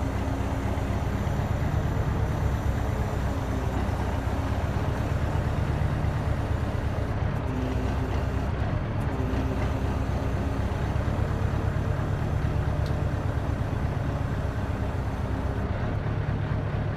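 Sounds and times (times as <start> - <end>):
diesel engine running at low revs: 0.0 - 16.9.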